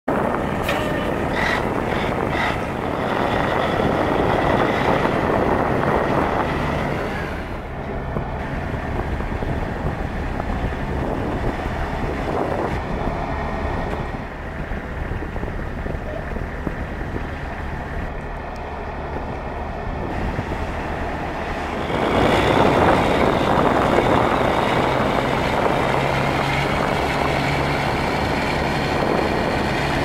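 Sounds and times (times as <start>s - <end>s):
truck diesel engine running: 0.1s - 30.0s
wind on microphone: 0.1s - 30.0s.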